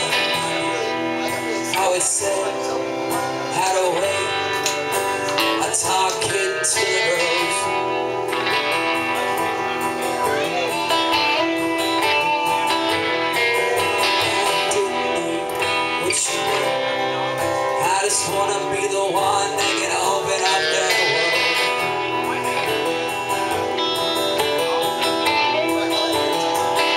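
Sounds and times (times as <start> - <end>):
acoustic guitar strumming: 0.0 - 26.9
electric guitar lead lines: 0.0 - 26.9.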